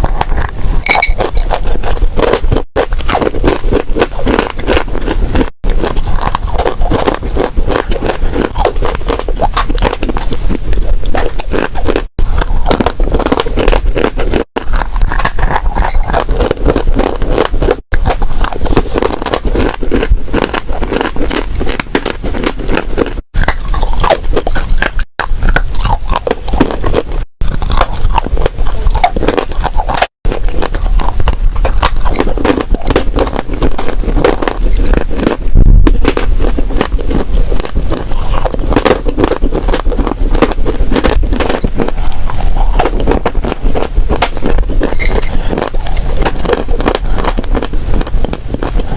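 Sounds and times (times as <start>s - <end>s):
dry clay crunching and crumbling: 0.0s - 48.9s.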